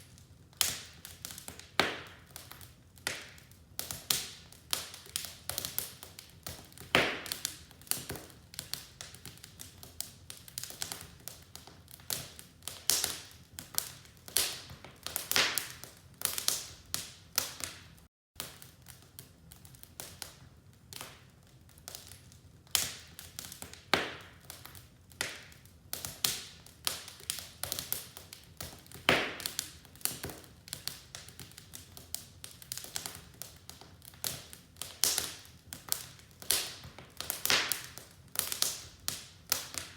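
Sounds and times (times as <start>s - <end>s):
wood fire crackling: 0.0s - 39.9s
sharp pops of fire: 0.6s - 21.3s, 21.9s - 39.9s.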